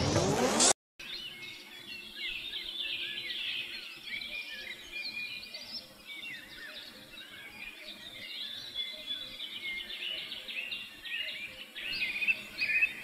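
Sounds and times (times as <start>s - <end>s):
birds chirping and calling: 1.0s - 13.0s.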